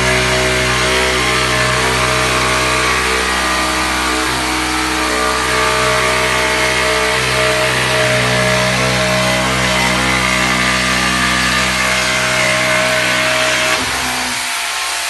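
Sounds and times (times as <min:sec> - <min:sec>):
jigsaw sawing through wood: 0:00.0 - 0:15.0.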